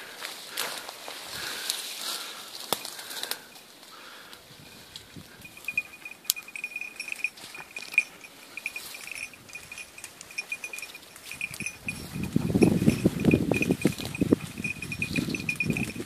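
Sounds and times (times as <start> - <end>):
footsteps through tall grass: 0.0 - 3.9, 4.7 - 16.0.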